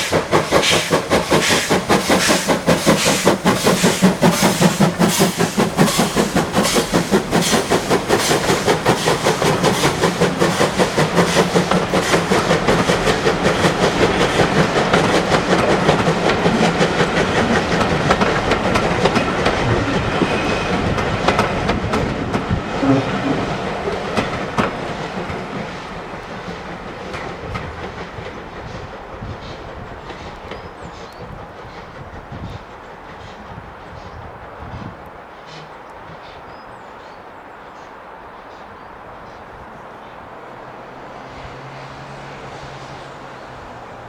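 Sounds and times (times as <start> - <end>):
train wheels clicking over rail joints: 0.0 - 36.4.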